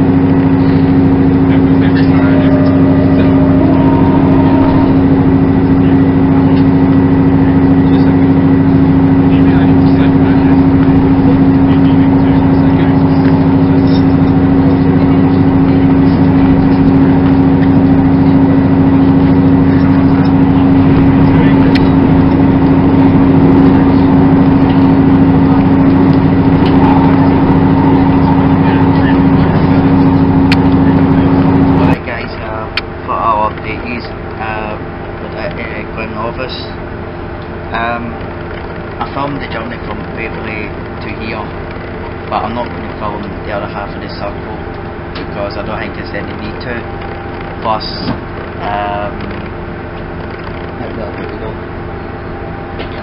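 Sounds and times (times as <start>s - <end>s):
diesel train engine drone: 0.0s - 53.0s.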